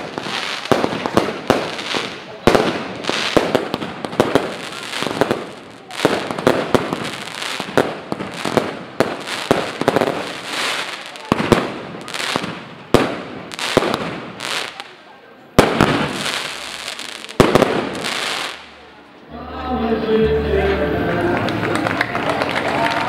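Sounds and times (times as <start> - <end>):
firework stars crackling: 0.0 - 19.0.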